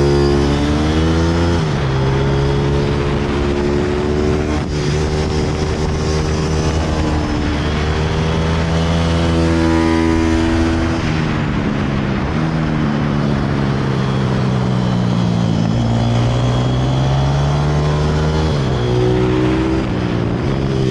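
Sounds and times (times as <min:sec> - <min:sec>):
motorbike engine running hard: 0:00.0 - 0:20.9.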